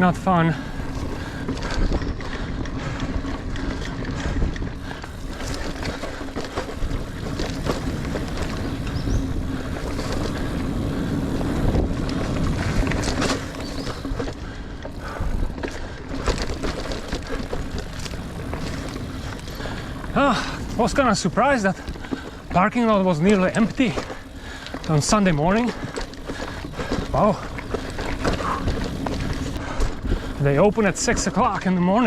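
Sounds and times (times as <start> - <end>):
bike clicks and rattles: 0.0 - 32.0
bike tyres rolling on dirt: 0.0 - 32.0
wind buffeting microphone: 0.0 - 32.0.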